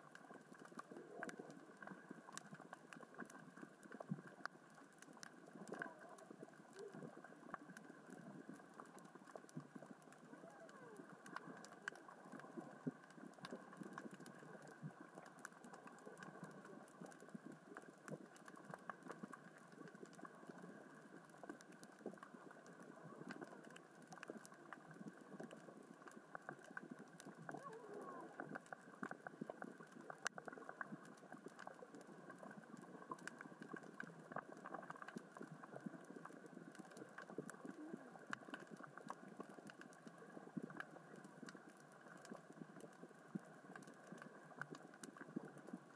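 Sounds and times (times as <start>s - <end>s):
underwater rocks clicking: 0.0s - 45.9s.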